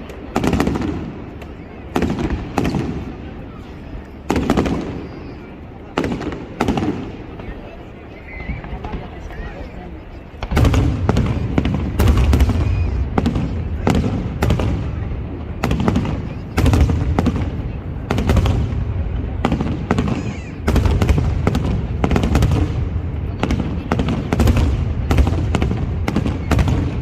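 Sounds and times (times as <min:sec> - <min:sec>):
deep fireworks booms: 0:00.0 - 0:27.0
fireworks sharp bangs: 0:00.0 - 0:27.0.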